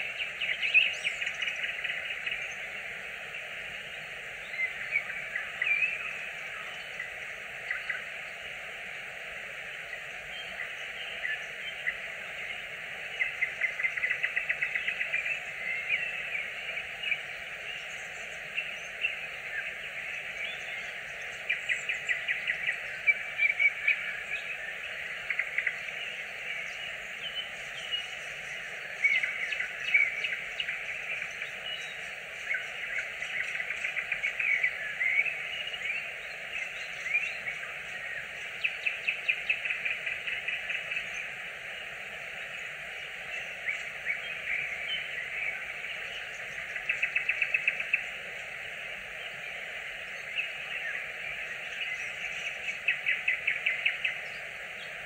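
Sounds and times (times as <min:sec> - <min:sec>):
nightingale singing: 0:00.0 - 0:55.0
steady background hiss: 0:00.0 - 0:55.0.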